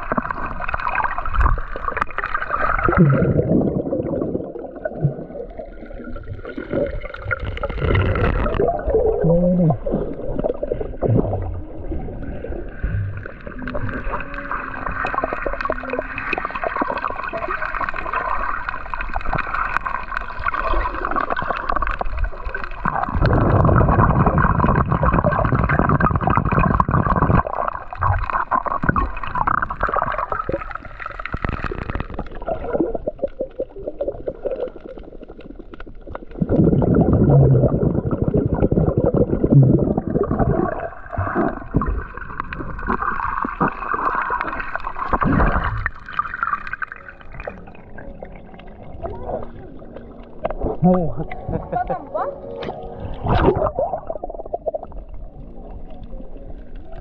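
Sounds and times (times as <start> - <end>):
muffled underwater gurgling: 0.0 - 57.0.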